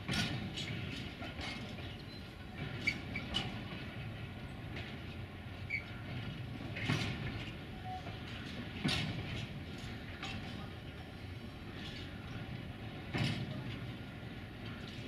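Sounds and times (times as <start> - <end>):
sharp clanks of wheels and wagons: 0.0 - 15.0
train rumbling: 0.0 - 15.0.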